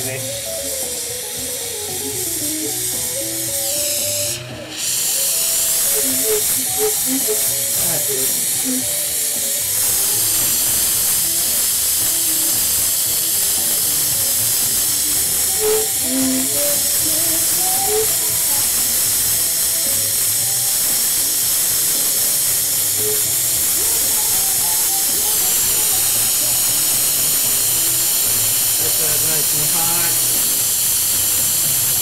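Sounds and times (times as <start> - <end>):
torch flame hissing: 0.0 - 32.0.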